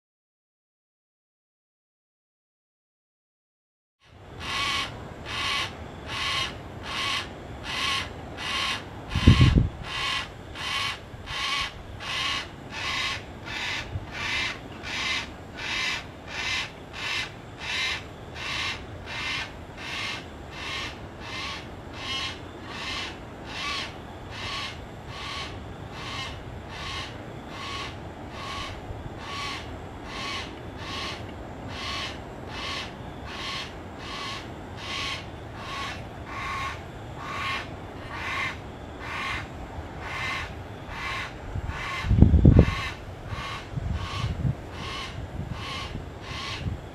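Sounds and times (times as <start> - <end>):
cockatoo harsh rasping calls: 4.4 - 46.7.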